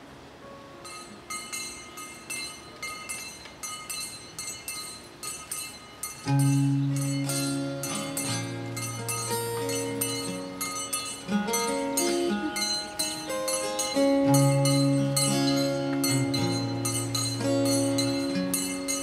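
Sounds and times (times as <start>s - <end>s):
hand bell ringing: 0.8s - 19.0s.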